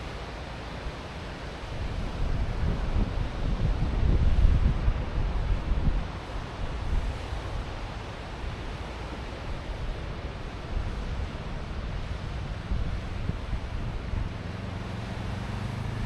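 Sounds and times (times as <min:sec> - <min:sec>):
ocean surf washing on shore: 0:00.0 - 0:16.0
wind rumble on microphone: 0:00.9 - 0:16.0.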